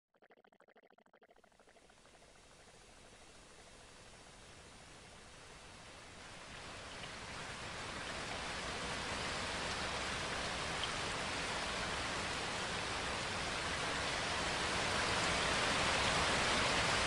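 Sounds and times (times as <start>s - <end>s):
rain falling: 2.5s - 17.0s.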